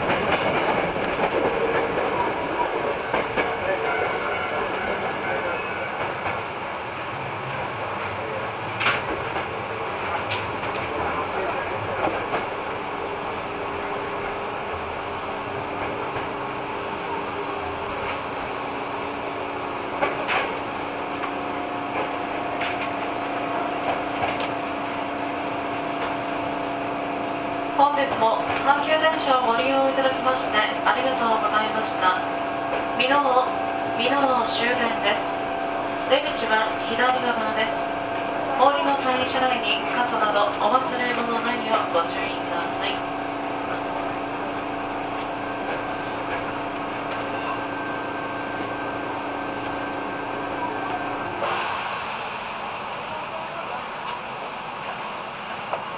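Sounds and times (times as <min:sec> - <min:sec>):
electric train rolling and braking: 0:00.0 - 0:55.9.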